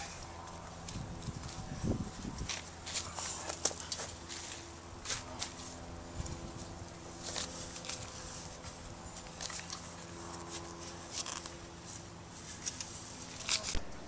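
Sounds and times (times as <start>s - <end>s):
rake scuffing on soil: 2.3s - 13.7s.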